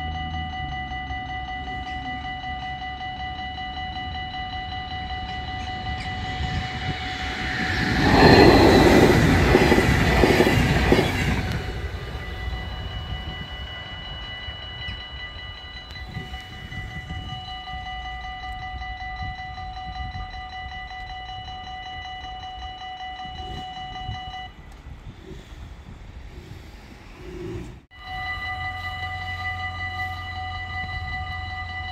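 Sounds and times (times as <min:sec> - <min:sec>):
railroad crossing bells ringing: 0:00.0 - 0:26.2, 0:27.9 - 0:31.9
passing train rushing: 0:00.0 - 0:31.9.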